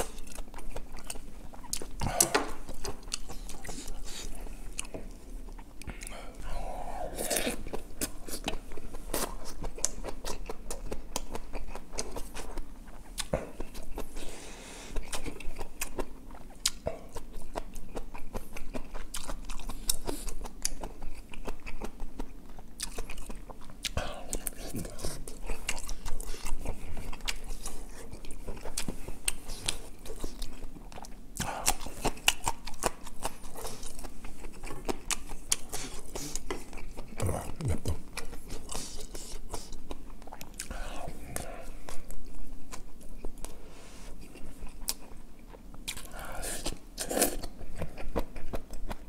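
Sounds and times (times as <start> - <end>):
close chewing: 0.0 - 49.0.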